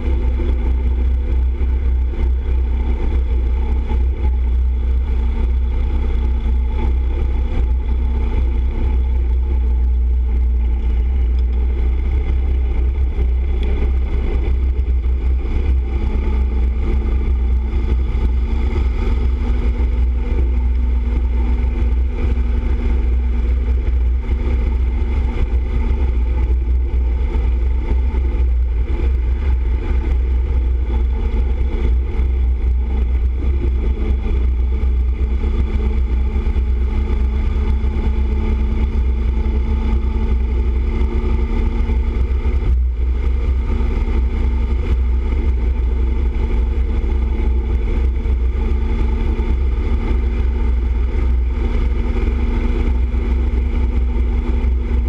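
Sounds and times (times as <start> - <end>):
motorcycle engine drone: 0.0 - 55.0.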